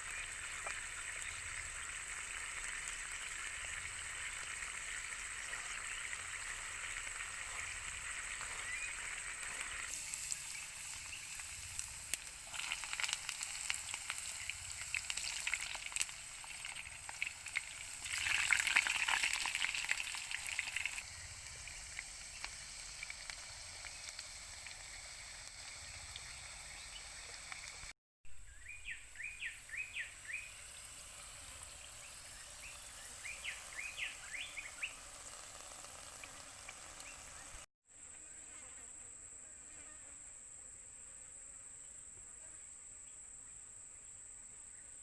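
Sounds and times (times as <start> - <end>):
steak sizzling in pan: 0.0 - 27.9, 29.2 - 37.7.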